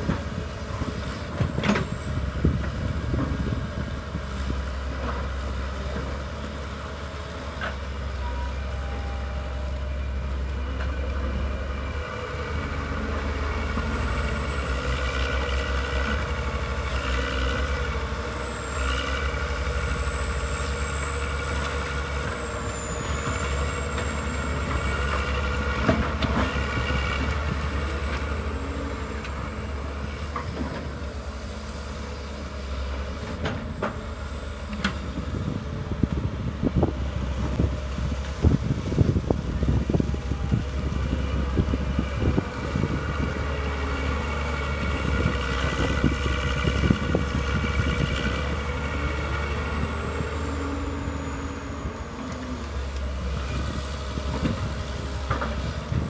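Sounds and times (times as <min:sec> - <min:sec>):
excavator diesel engines rumbling: 0:00.0 - 0:56.0.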